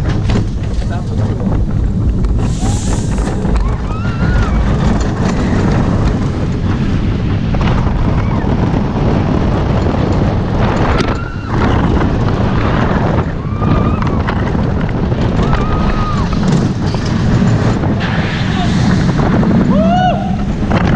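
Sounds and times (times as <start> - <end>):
roller coaster train rumbling: 0.0 - 20.9
wind buffeting microphone: 0.0 - 20.9.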